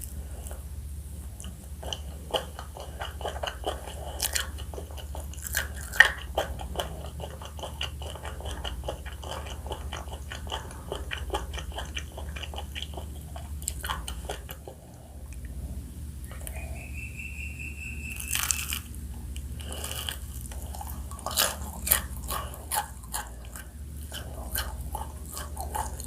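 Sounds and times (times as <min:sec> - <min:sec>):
crunchy chewing of fried chicken: 0:00.0 - 0:26.0
wet mouth sounds: 0:00.0 - 0:26.0.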